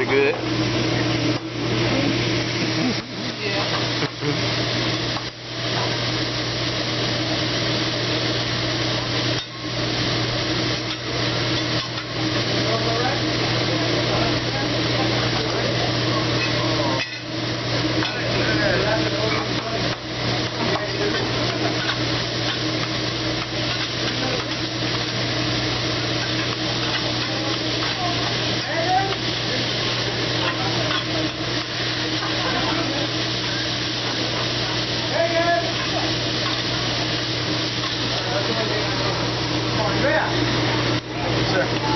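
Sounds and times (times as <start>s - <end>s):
food sizzling on a griddle: 0.0s - 41.9s.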